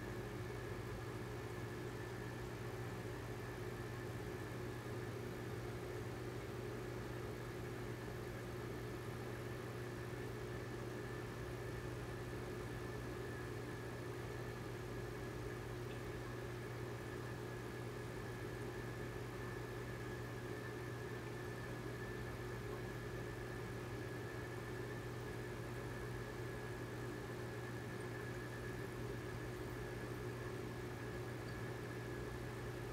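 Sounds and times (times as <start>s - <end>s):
aquarium pump humming: 0.0s - 32.9s.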